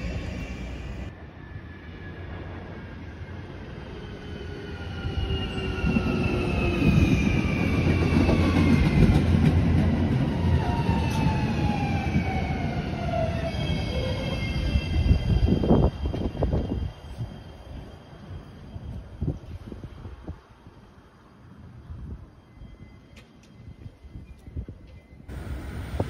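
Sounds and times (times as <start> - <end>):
rumble of wheels on rail: 0.0 - 26.0.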